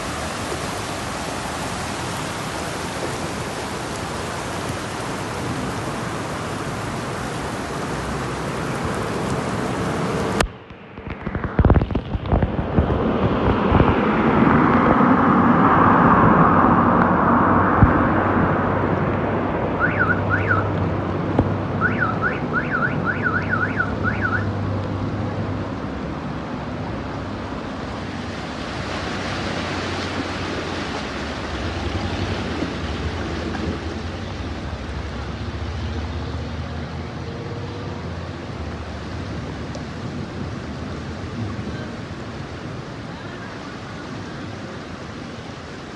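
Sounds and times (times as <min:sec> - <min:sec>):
tyres sloshing through water: 0:00.0 - 0:15.1, 0:17.8 - 0:45.9
floodwater running: 0:00.0 - 0:45.9
low engine hum: 0:00.0 - 0:45.9.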